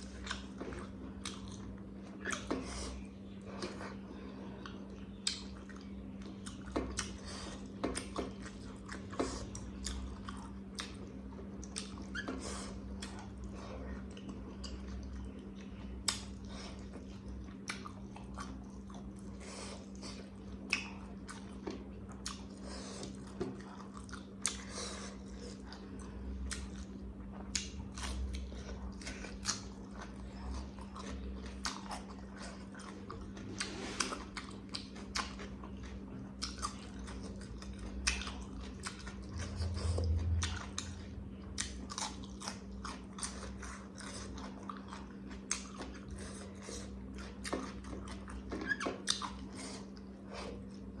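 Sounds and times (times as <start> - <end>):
chewing and biting food: 0.0 - 51.0
steady low hum: 0.0 - 51.0.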